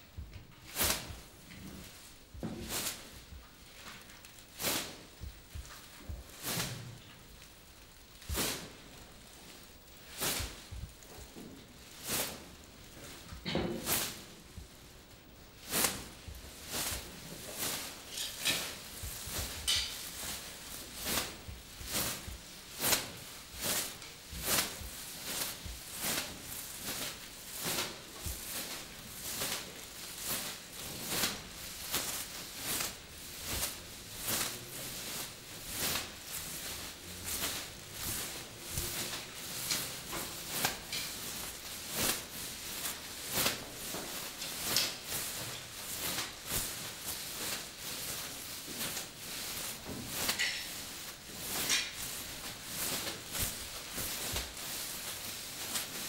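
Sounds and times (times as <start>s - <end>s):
rhythmic rustling clattering strokes: 0.0s - 56.0s.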